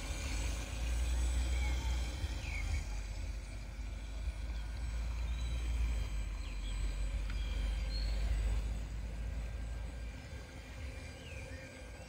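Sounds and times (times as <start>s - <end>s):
model boat jet drive whine: 0.0s - 12.0s.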